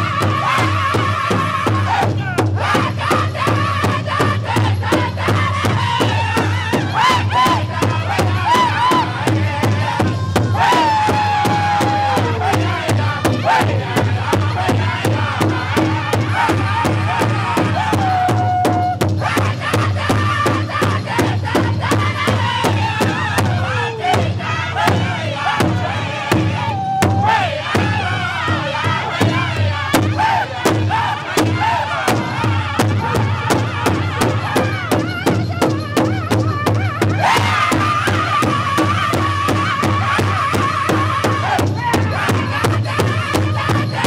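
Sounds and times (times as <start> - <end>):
group singing loudly together: 0.0 - 35.8, 36.7 - 44.0
large hide drum beating: 0.0 - 44.0.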